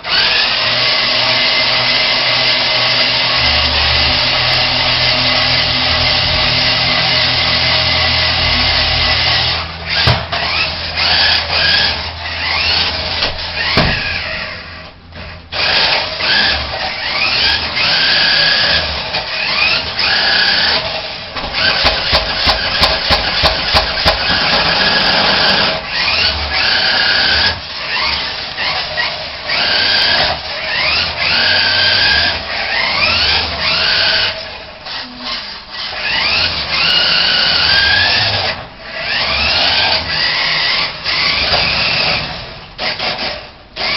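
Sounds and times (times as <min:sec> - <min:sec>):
remote control truck motor whining: 0:00.0 - 0:43.9.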